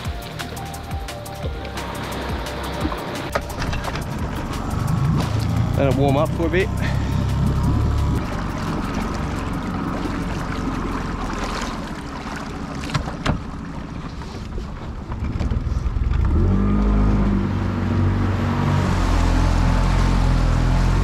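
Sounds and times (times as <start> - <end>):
outboard motor running and revving: 0.0 - 21.0.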